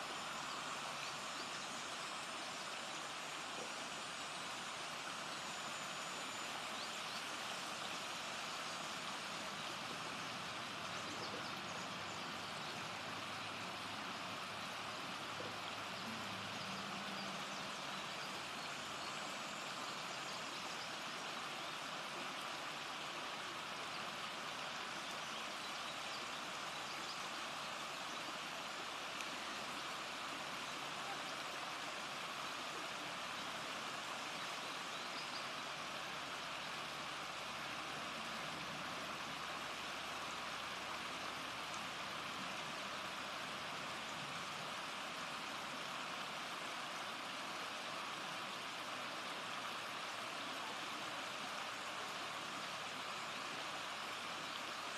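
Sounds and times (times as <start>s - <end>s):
river water rushing over rocks: 0.0s - 54.9s.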